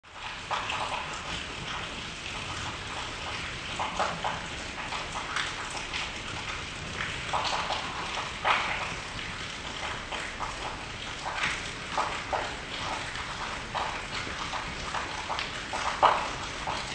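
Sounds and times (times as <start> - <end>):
heavier raindrops: 0.0 - 16.9
rain falling on leaves: 0.0 - 16.9.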